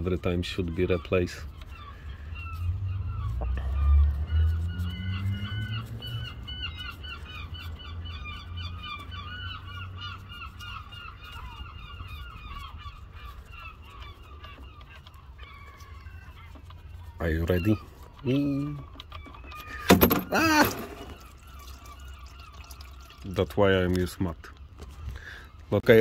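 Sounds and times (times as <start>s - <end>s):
poultry calling: 0.0s - 23.4s.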